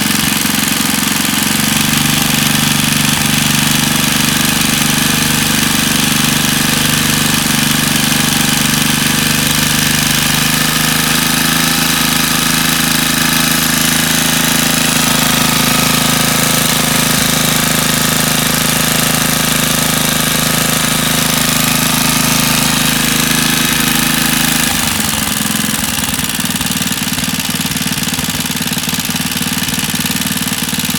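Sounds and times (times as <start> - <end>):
two-stroke engine running: 0.0 - 30.9.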